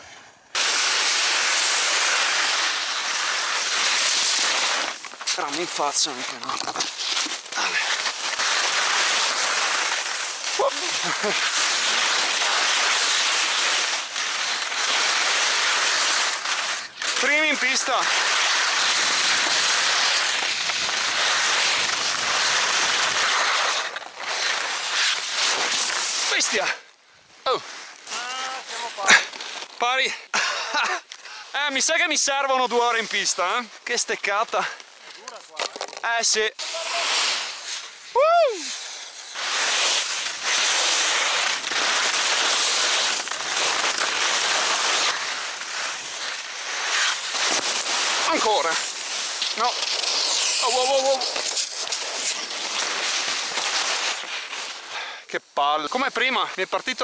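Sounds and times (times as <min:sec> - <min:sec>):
skis scraping over snow: 0:00.0 - 0:26.9, 0:27.5 - 0:57.0.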